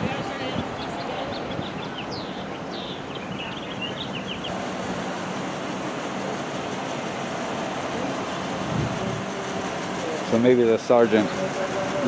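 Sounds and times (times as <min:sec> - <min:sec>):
roadside traffic: 0:00.0 - 0:12.0.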